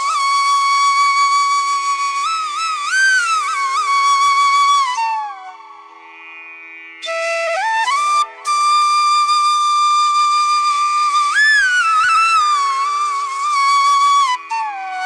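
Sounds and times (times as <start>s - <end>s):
solo flute melody: 0.0s - 6.0s, 7.0s - 15.0s.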